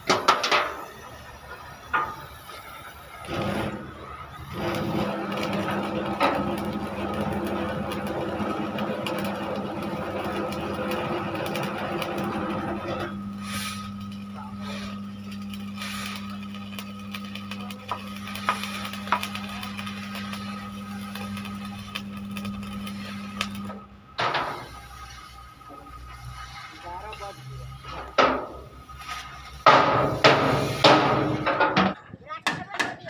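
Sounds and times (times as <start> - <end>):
machine hiss and rumble: 0.0 - 32.2
machine low hum: 0.2 - 32.0.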